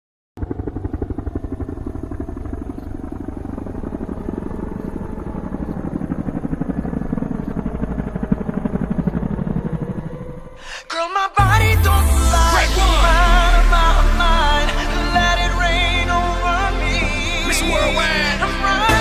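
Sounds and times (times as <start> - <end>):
engine running with pulsing beat: 0.4 - 10.6, 11.4 - 19.0.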